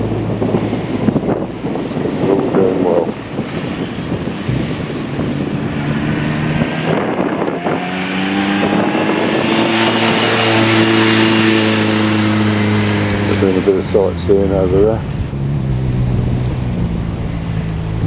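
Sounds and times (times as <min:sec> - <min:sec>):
wind noise on microphone: 0:00.0 - 0:18.0.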